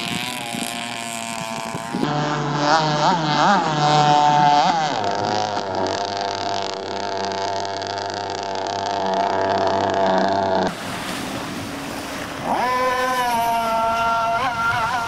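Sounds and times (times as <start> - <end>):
rc boat motor high whine: 0.0 - 15.0
surf: 0.0 - 15.0
wind: 0.0 - 15.0.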